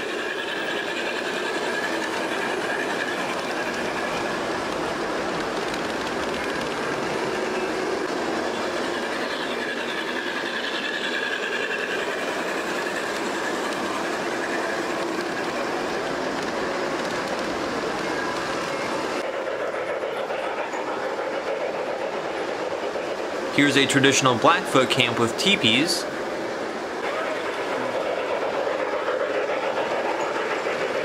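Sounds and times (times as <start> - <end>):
model train wheels rattling on rail: 0.0 - 31.0.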